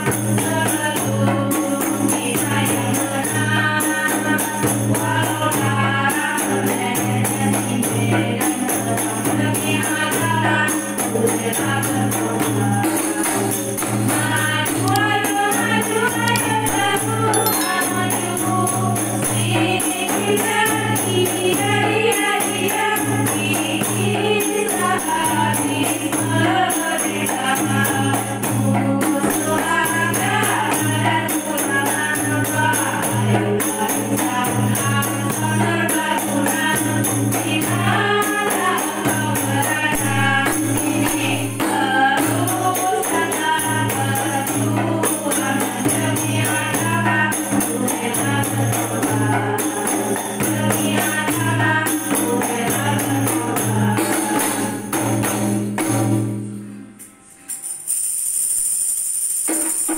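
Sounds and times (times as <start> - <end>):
women singing in unison: 0.0 - 55.5
frame drums: 0.0 - 57.8.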